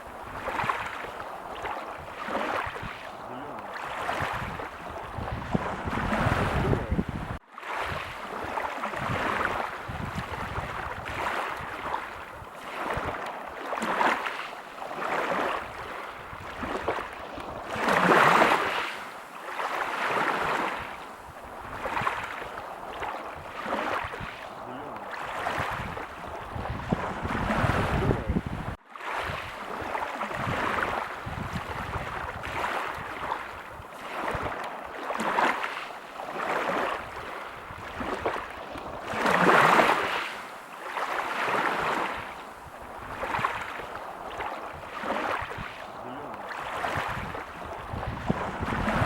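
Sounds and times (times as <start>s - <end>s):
ocean waves breaking on beach: 0.0s - 49.0s.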